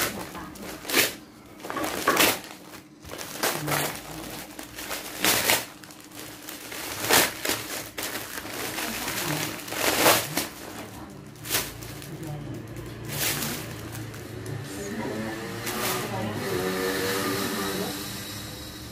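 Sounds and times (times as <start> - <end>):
gift wrapping crinkling and tearing: 0.0 - 17.2.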